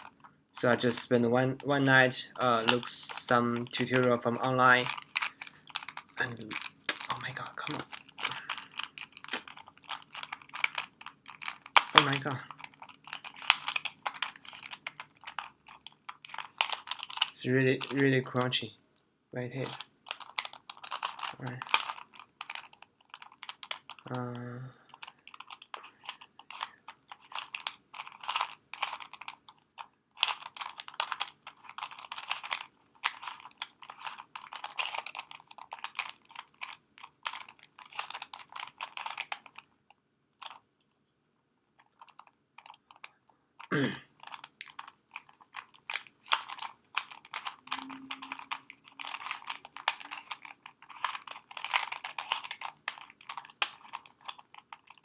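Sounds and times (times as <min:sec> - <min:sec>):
puzzle cube clicking: 0:02.5 - 0:18.5, 0:19.6 - 0:24.2, 0:24.9 - 0:39.7, 0:41.9 - 0:55.0.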